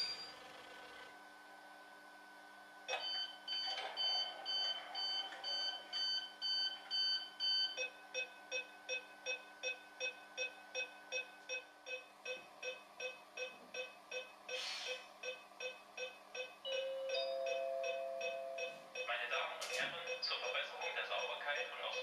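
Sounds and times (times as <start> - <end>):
electronic warning beeps: 0.0 - 0.4, 2.9 - 22.0
faint steady whine and hum: 0.0 - 22.0.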